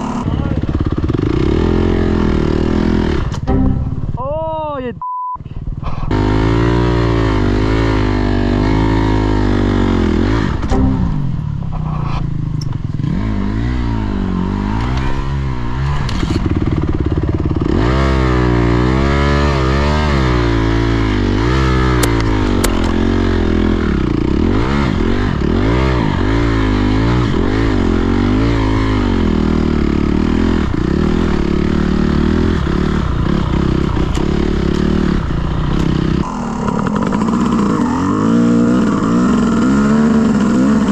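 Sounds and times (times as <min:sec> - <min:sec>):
dirt bike engine revving: 0:00.0 - 0:04.9, 0:05.8 - 0:40.9.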